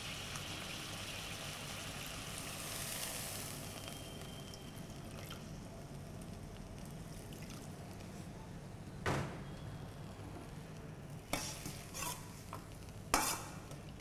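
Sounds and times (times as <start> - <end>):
food sizzling and bubbling in wok: 0.0 - 8.8, 9.7 - 14.0.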